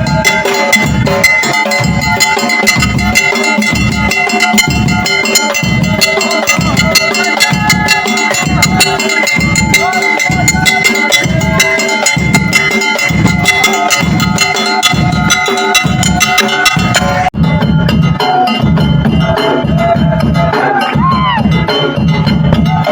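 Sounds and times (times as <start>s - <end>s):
held high tone: 0.0s - 21.7s
hand drums beating: 0.0s - 22.9s
metallic clacking percussion: 0.0s - 22.9s.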